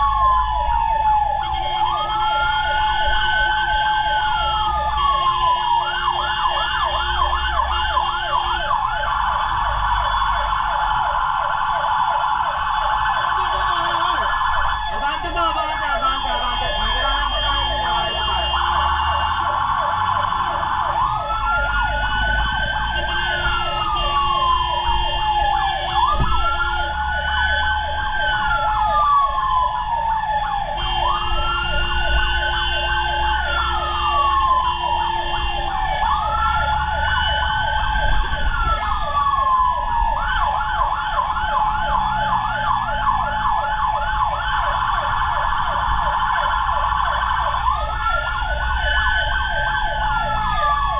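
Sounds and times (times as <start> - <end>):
fire truck sirens wailing: 0.0 - 50.9.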